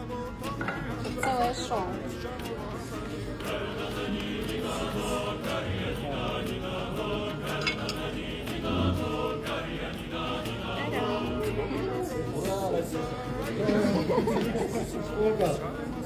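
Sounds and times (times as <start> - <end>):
voices singing in harmony: 0.0 - 16.0.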